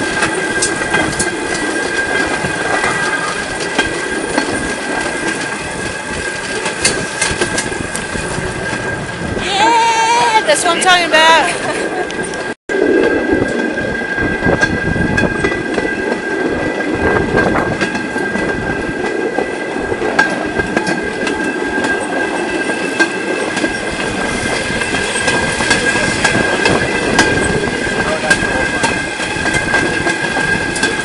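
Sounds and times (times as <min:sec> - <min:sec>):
rail joint clicks: 0:00.0 - 0:09.4, 0:11.6 - 0:31.0
steel wheels on rail track: 0:00.0 - 0:31.0.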